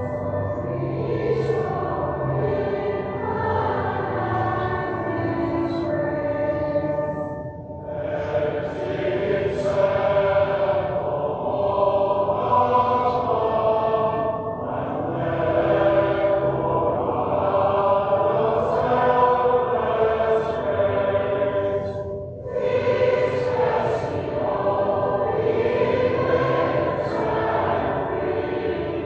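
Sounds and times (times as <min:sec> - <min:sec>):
choir singing over speakers: 0:00.0 - 0:29.0.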